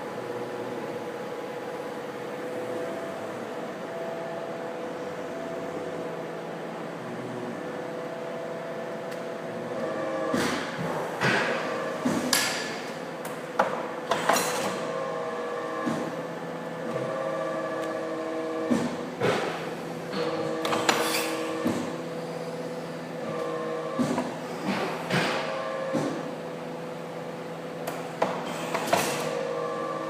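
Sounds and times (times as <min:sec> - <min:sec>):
machine motor hum: 0:00.0 - 0:30.0.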